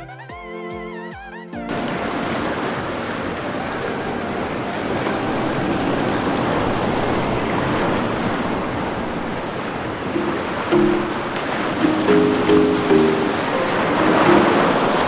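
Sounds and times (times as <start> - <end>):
sea surf on a beach: 1.7 - 15.0.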